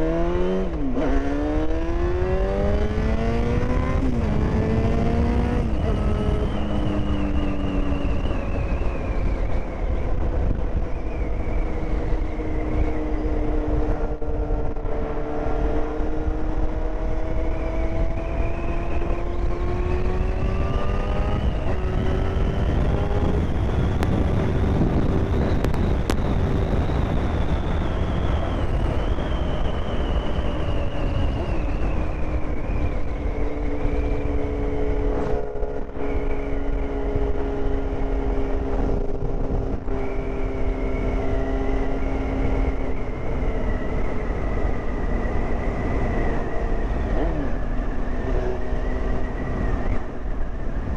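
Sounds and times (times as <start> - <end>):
wind rumble on microphone: 0.0 - 50.9.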